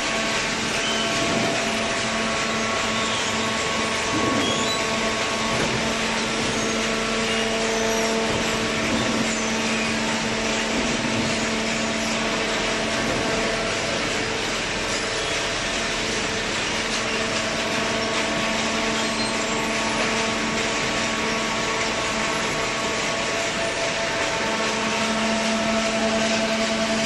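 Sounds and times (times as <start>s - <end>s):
hydraulic pump motor humming: 0.0s - 27.0s.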